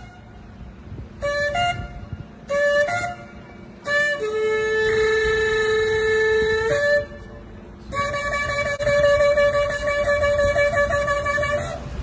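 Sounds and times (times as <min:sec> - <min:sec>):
shofar horn blasts: 0:00.0 - 0:00.4, 0:01.2 - 0:12.0.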